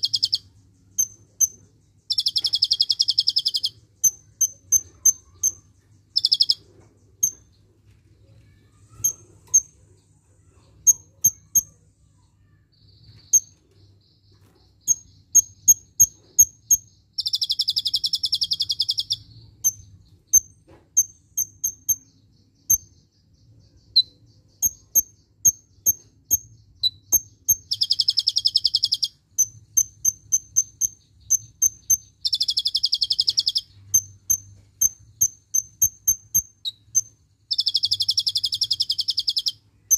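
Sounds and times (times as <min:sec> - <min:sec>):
bird rapid trill: 0:00.0 - 0:07.6, 0:08.5 - 0:39.9
bird high chirps: 0:00.0 - 0:39.9.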